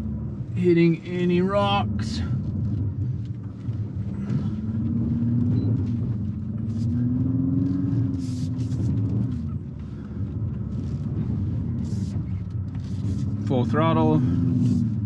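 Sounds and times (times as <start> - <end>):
car engine climbing: 0.0 - 15.0.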